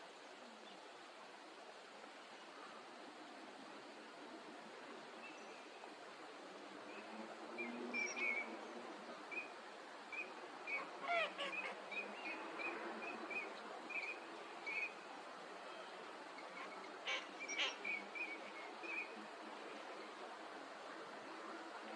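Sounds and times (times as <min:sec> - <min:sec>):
background hiss: 0:00.0 - 0:21.9.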